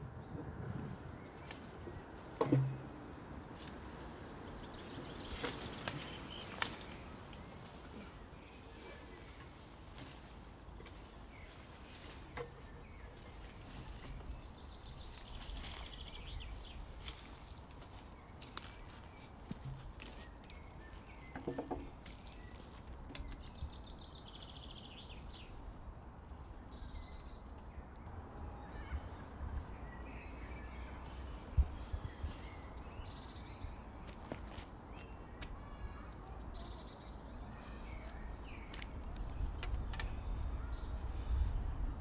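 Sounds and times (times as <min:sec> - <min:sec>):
small birds chirping: 0:00.1 - 0:42.0.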